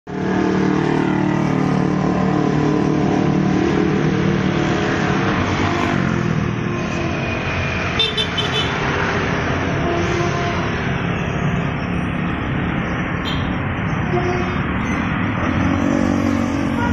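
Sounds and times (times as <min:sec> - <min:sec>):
scooters and motorcycles passing: 0:00.1 - 0:16.9.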